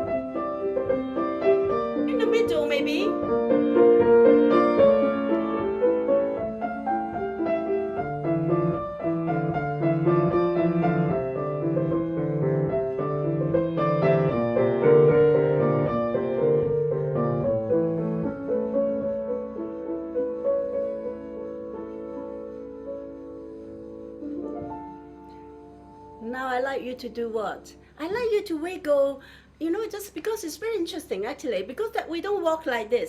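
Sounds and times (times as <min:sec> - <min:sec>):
gentle piano melody: 0:00.0 - 0:28.9.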